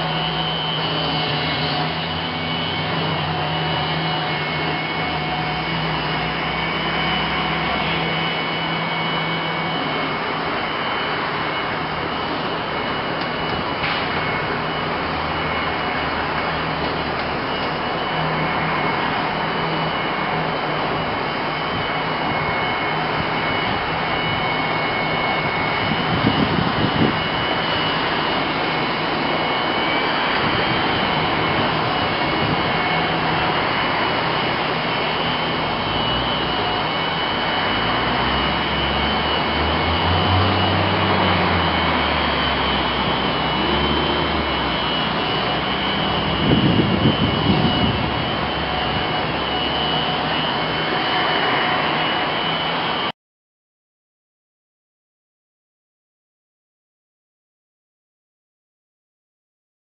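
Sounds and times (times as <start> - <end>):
electric blower vacuum whine: 0.0 - 53.1.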